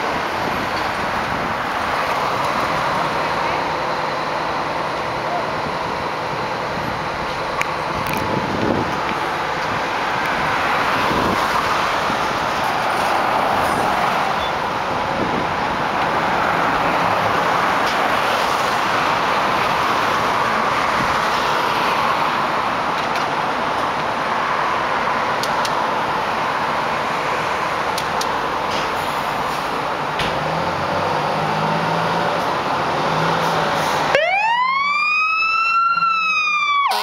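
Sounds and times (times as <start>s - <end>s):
diesel engines running: 0.0s - 37.0s.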